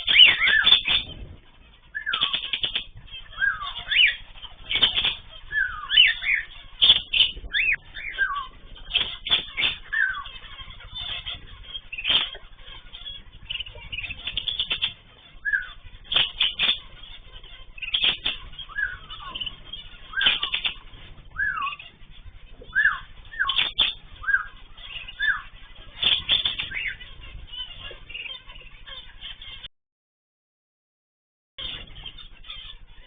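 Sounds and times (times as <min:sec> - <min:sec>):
birds whistling: 0:00.0 - 0:29.7, 0:31.6 - 0:33.0
sharp bird chirps: 0:00.0 - 0:29.7.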